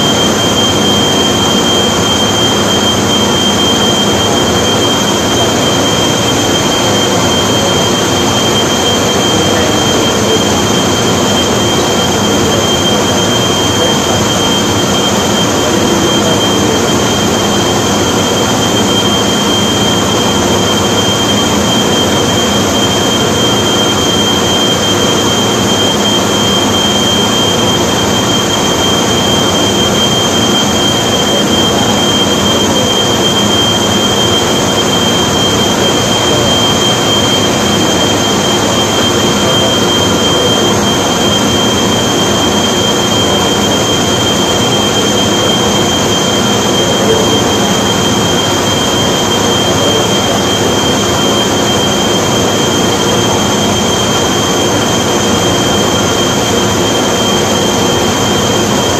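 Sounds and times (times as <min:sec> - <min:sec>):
factory machinery din: 0:00.0 - 0:58.9.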